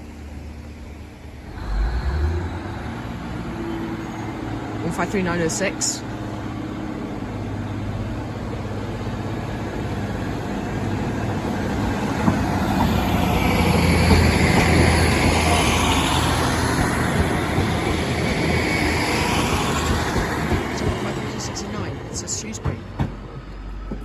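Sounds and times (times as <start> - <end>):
diesel train approaching: 0.0 - 24.0.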